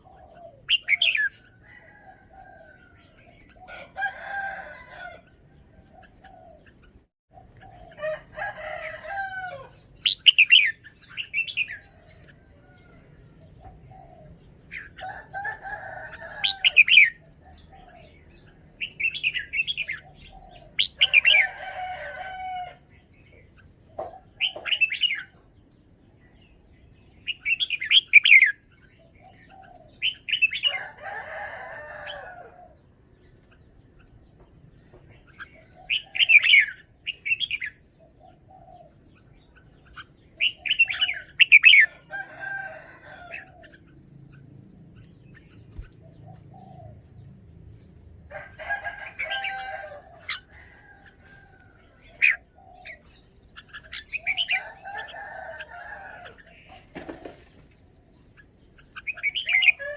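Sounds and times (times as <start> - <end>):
bird warbling song: 0.0 - 59.9.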